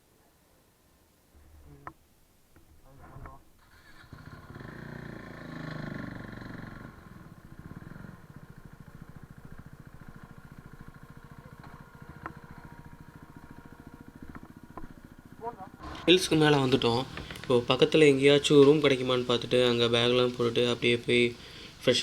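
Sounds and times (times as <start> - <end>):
motorcycle engine revving and idling: 3.6 - 22.0.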